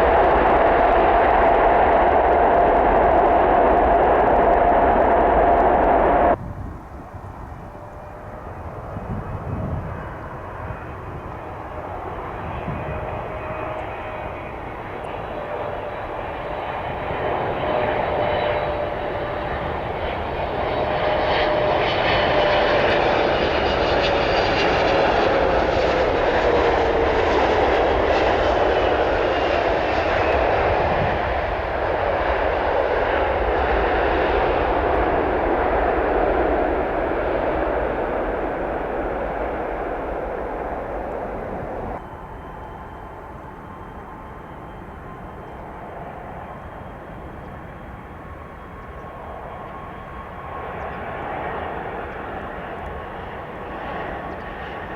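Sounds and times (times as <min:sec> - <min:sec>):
jet airliner flying past: 0:00.0 - 0:54.9.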